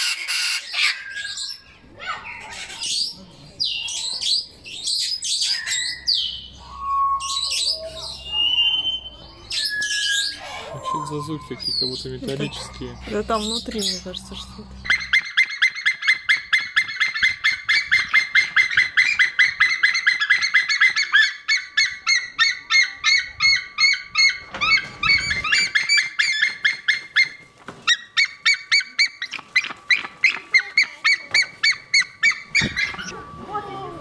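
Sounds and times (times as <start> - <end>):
eagle calling: 0.0 - 34.0.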